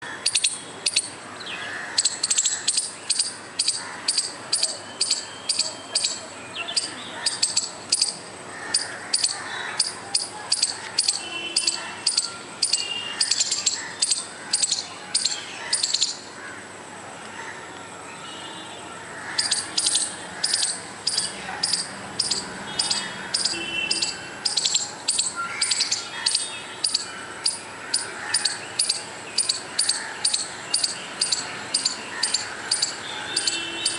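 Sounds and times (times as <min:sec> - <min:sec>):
squirrel chirping: 0:00.2 - 0:01.2, 0:01.9 - 0:16.3, 0:19.4 - 0:33.9.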